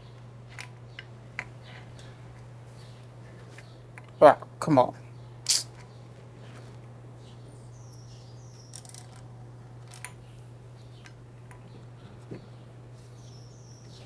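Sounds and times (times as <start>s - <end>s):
birds chirping: 0.0s - 6.2s, 7.1s - 14.0s.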